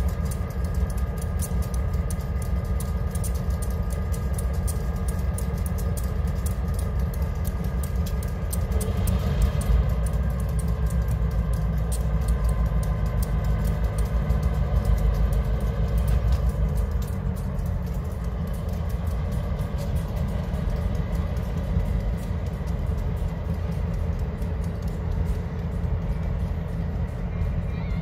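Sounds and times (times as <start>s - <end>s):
diesel locomotives idling: 0.0s - 28.0s
faint steady tones: 0.0s - 28.0s.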